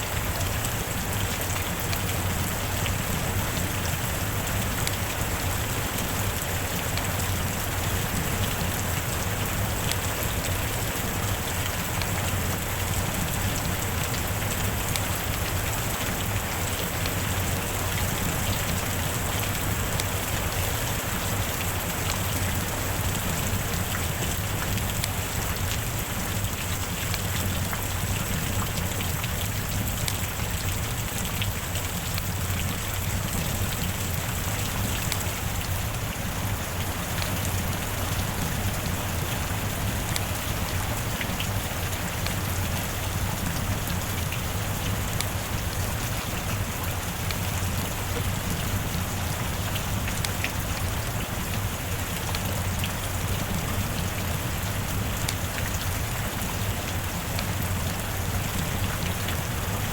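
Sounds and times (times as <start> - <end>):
heavy rain hissing: 0.0 - 59.9
raindrops pattering on a surface: 0.0 - 59.9.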